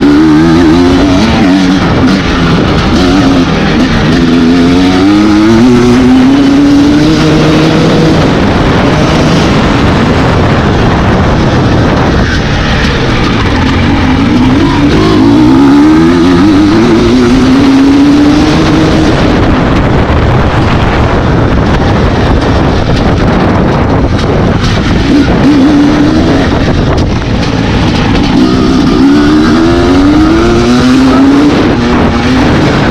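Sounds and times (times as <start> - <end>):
dirt bike engines revving: 0.0 - 32.9.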